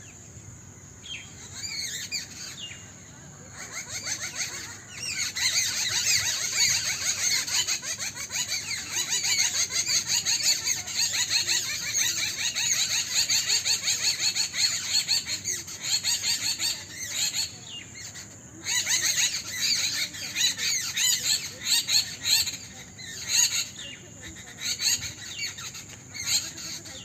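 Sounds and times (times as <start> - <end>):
small birds chirping and chattering: 0.0 - 27.0.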